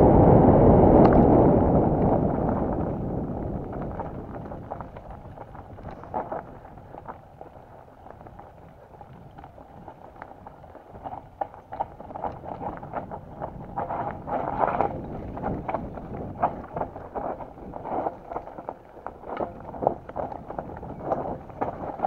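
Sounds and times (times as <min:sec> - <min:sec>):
wind on microphone: 0:00.0 - 0:22.0
tyres crunching over stones: 0:02.8 - 0:22.0
bike rattling clicks: 0:03.7 - 0:22.0.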